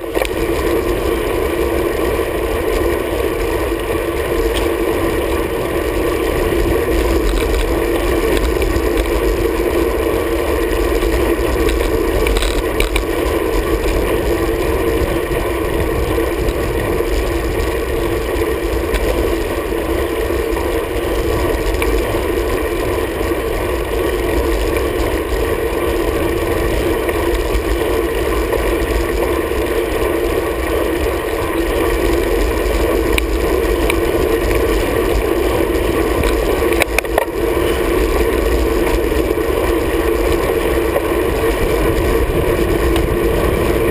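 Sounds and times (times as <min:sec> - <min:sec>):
tyre rumble on asphalt: 0:00.0 - 0:43.9
wind noise: 0:00.0 - 0:43.9.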